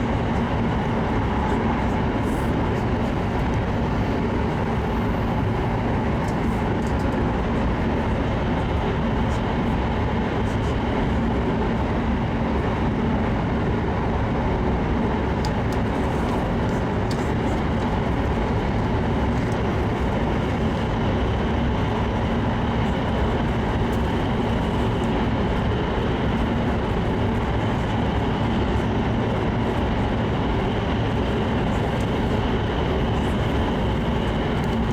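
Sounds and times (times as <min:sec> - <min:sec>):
train rumble and hiss inside: 0:00.0 - 0:34.9.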